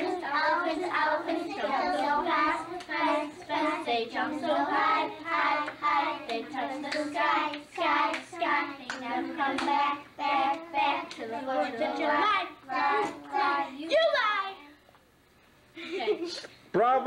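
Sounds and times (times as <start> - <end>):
girls singing in unison: 0.0 - 13.9.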